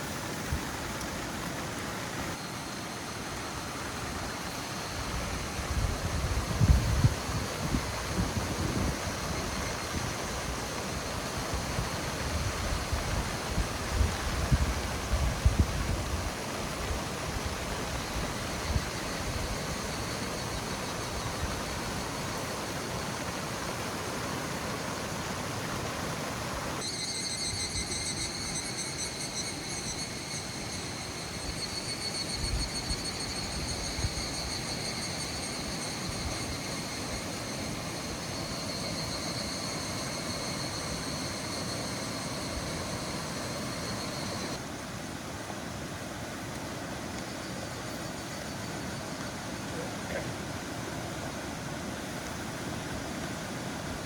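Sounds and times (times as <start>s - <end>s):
water rushing in stream: 0.0s - 27.0s, 33.2s - 54.0s.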